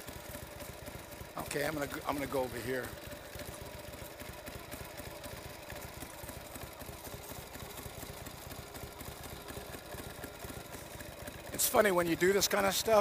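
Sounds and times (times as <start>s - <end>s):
motorcycle engine running low revs: 0.0s - 13.0s.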